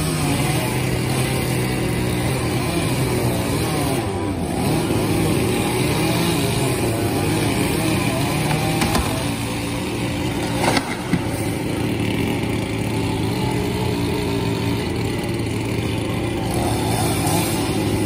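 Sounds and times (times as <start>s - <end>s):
small engine droning: 0.0s - 18.0s.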